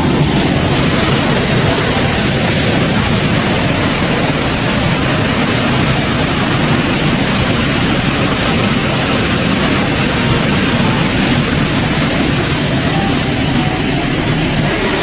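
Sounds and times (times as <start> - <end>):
loud steady rushing noise: 0.0 - 15.0.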